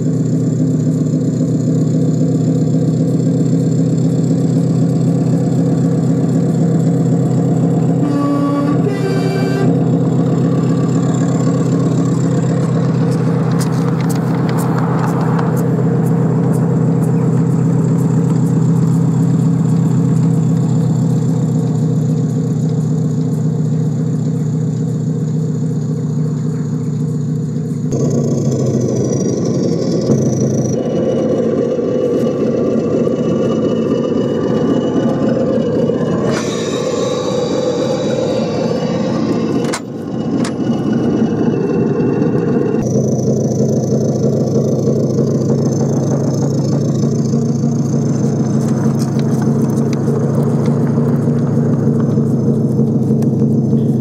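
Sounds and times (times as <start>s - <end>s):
miniature diesel locomotive engine: 0.0s - 54.0s.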